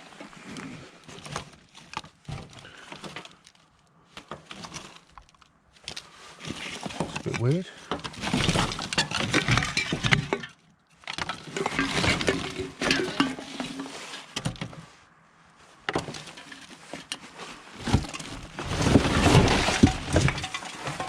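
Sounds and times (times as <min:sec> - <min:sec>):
scrap clattering and rustling: 0:00.0 - 0:21.0.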